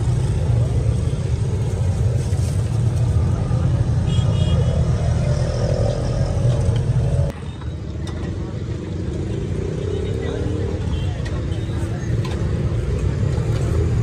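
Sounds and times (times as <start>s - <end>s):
low rumble of street traffic: 0.0s - 14.0s.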